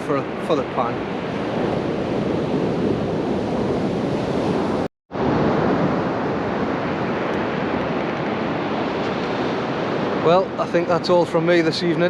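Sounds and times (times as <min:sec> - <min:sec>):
surf breaking on beach: 0:00.0 - 0:12.0
wind on microphone: 0:00.0 - 0:12.0.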